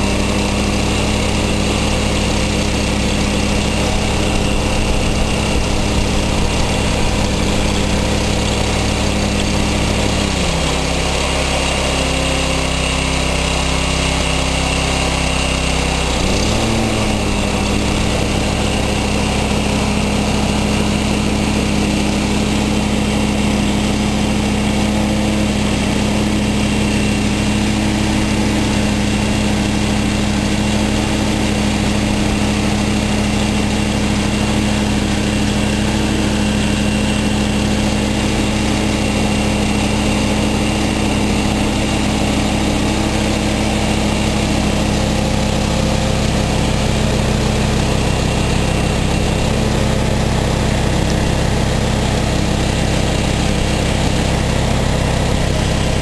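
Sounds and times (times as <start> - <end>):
snowblower running: 0.0 - 56.0.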